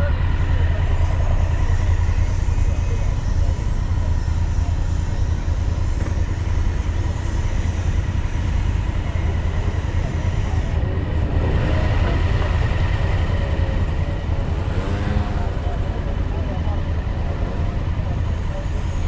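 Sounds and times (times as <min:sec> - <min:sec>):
engine humming: 0:00.0 - 0:19.0
murmuring voices: 0:00.0 - 0:19.0.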